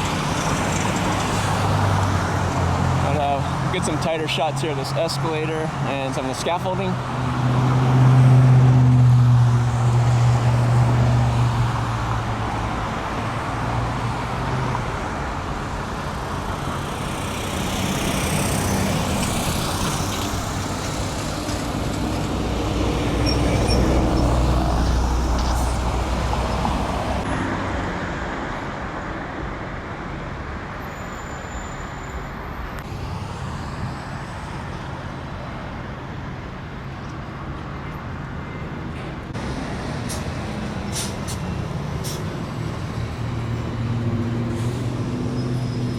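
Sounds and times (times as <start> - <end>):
heavy vehicle engine: 0.0 - 45.9
road traffic passing: 0.0 - 45.9.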